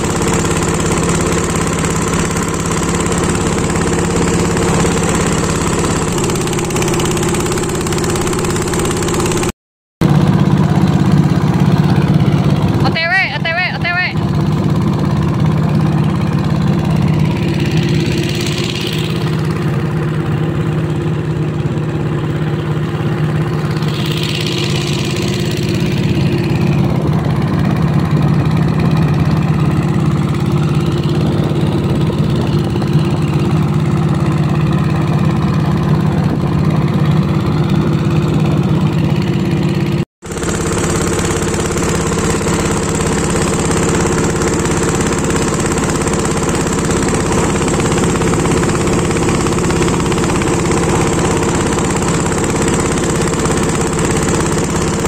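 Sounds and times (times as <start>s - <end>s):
boat motor humming: 0.0s - 55.0s.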